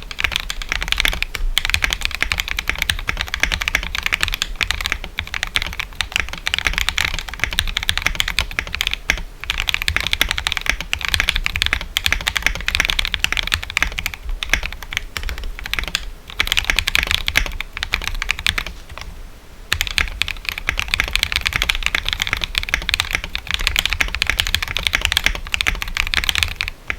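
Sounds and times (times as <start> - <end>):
mechanical keyboard typing: 0.0 - 19.1, 19.7 - 26.9.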